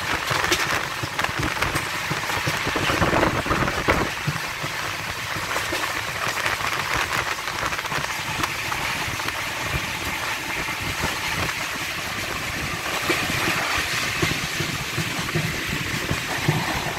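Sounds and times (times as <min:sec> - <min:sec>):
wheel-on-rail noise: 0:00.0 - 0:16.9
wheels clacking over rail joints: 0:00.0 - 0:16.9.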